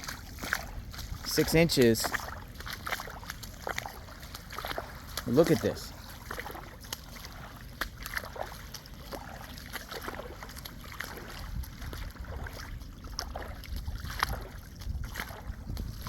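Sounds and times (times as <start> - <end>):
floodwater splashing and trickling: 0.0 - 16.0
low water rumble: 0.0 - 16.0.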